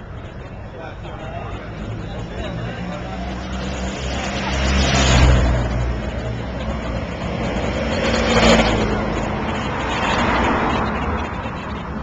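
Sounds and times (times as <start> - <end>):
vehicles driving past: 0.0 - 12.0.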